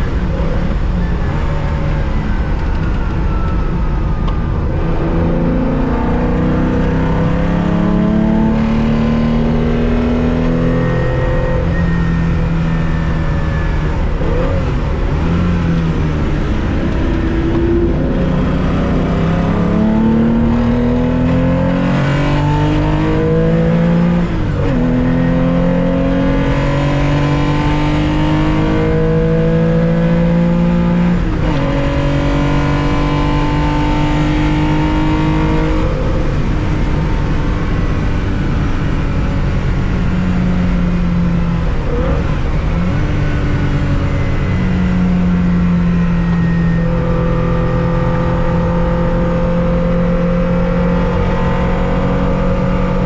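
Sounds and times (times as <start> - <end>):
sports car engine revving: 0.0 - 53.0.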